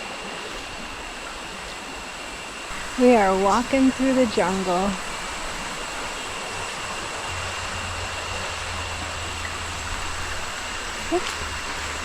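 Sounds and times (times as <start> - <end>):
low hum: 0.2 - 12.0
rushing hiss: 0.7 - 12.0.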